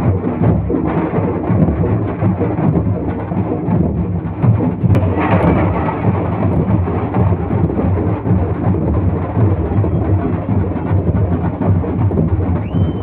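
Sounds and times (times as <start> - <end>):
loud distorted drumming: 0.0 - 13.0.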